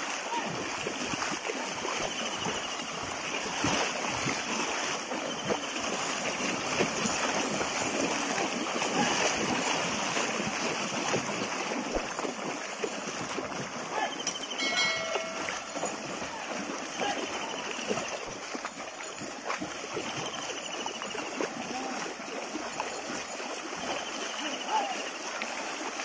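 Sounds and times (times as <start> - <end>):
cart wheels churning water: 0.0 - 26.0
hooves splashing through water: 0.0 - 26.0.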